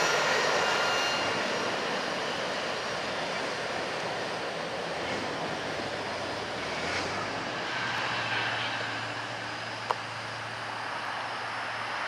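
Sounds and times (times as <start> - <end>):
freight train wheels rumbling on rails: 0.0 - 11.9.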